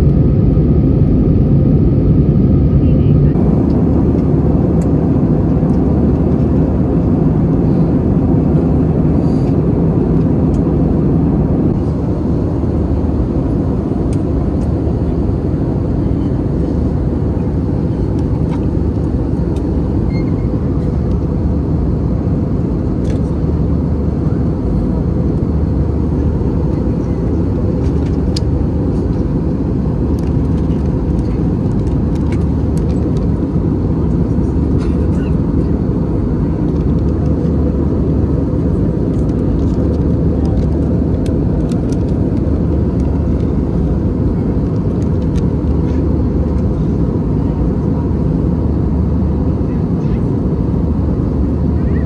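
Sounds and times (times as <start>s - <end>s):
airplane cabin engine rush: 0.0s - 52.0s.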